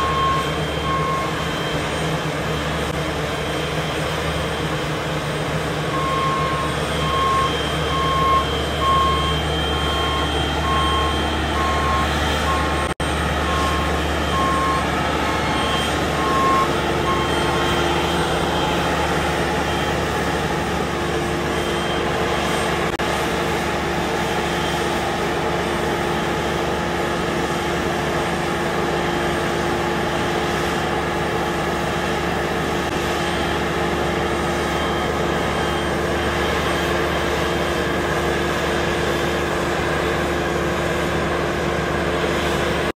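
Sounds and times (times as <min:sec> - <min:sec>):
diesel engine running steadily: 0:00.0 - 0:42.9.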